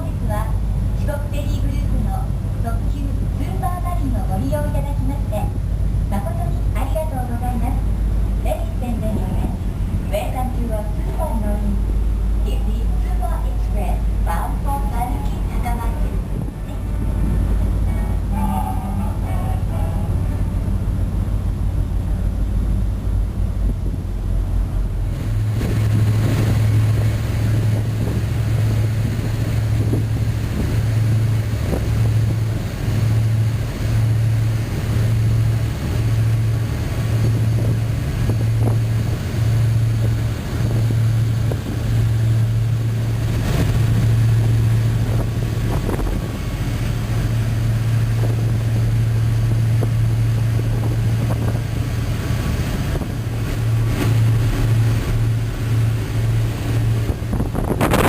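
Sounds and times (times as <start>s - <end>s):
boat engines droning: 0.0s - 58.0s
water noise: 0.0s - 58.0s
wind: 0.0s - 58.0s.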